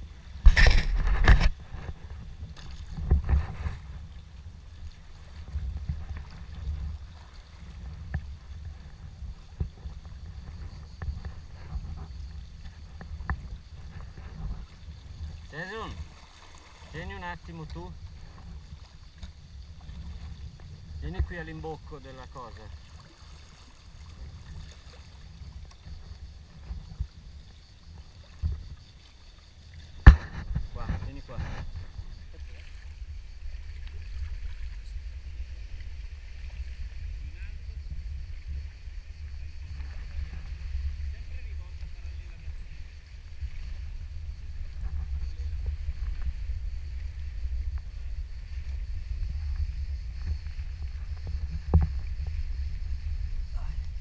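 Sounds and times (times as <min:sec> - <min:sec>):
water lapping and splashing: 0:00.0 - 0:54.0
wind rumble on microphone: 0:00.0 - 0:54.0.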